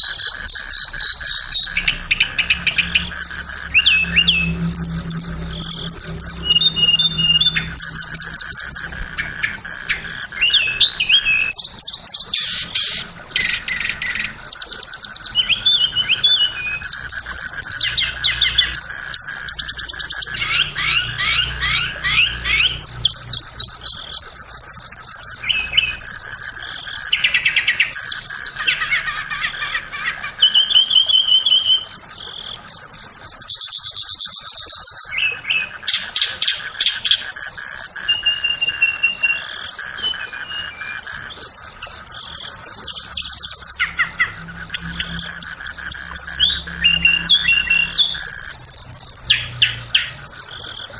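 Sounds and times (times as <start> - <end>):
bird singing high twittering trills: 0.0 - 50.9.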